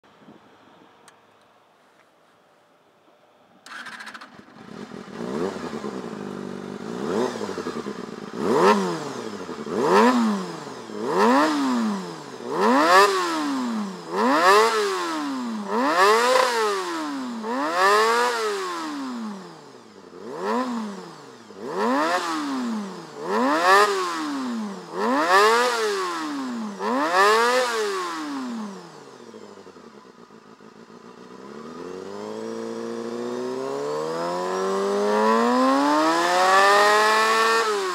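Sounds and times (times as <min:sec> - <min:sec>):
motorcycle engine revving: 0:03.6 - 0:37.9.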